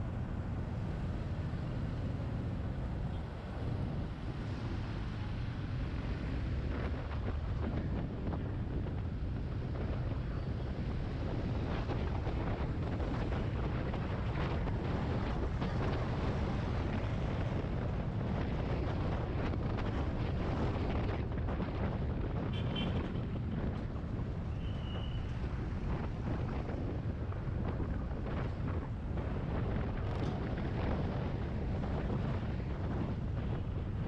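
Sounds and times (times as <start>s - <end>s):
road noise: 0.0s - 34.0s
wind buffeting microphone: 0.0s - 34.0s.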